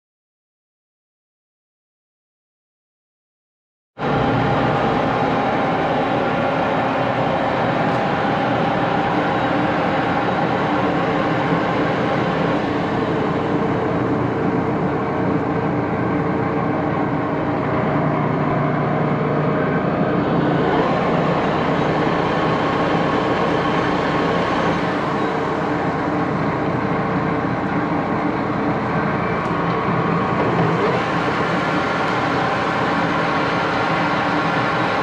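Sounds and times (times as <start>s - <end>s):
lathe whirring: 4.0s - 35.0s.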